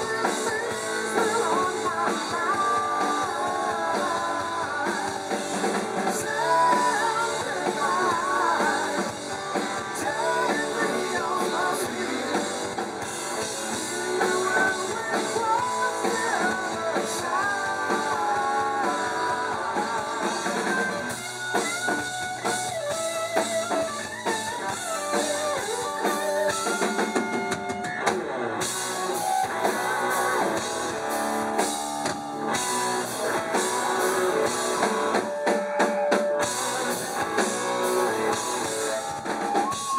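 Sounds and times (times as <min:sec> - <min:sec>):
bass guitar: 0:00.0 - 0:39.9
drum kit: 0:00.0 - 0:39.9
electric guitar: 0:00.0 - 0:39.9
wavering melodic lead line: 0:00.0 - 0:39.9.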